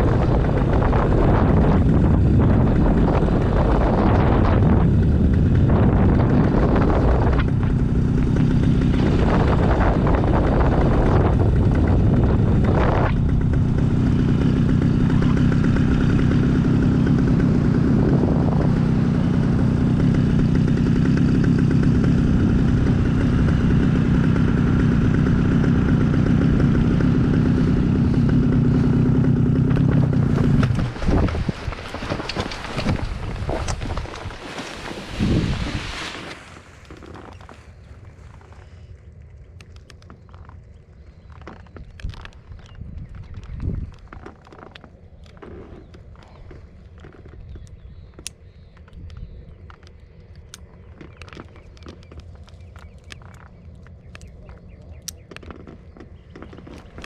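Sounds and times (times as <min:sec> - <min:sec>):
wind rush on microphone: 0:00.0 - 0:38.7, 0:41.0 - 0:57.0
small aircraft engine idling: 0:00.0 - 0:57.0.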